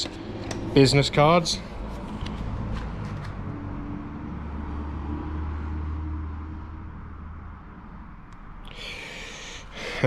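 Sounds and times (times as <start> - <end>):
passing vehicle engine rumble: 0.0 - 8.6.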